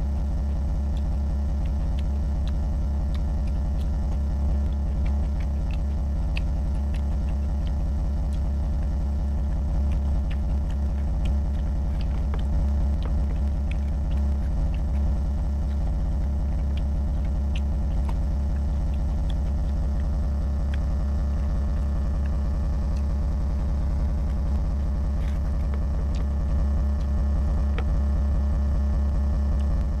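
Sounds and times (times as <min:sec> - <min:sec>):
man chewing food: 0:00.0 - 0:30.0
steady low hum: 0:00.0 - 0:30.0.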